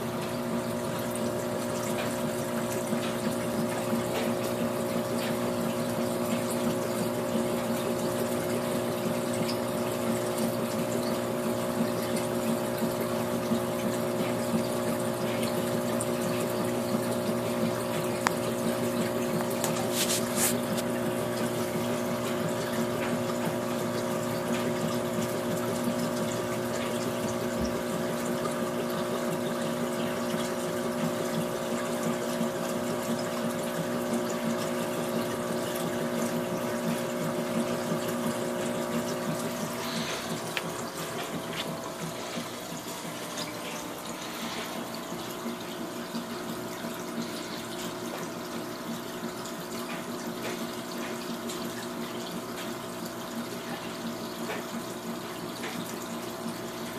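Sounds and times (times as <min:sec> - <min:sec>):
filter pump motor hum: 0:00.0 - 0:56.9
water splashing and trickling: 0:00.0 - 0:56.9.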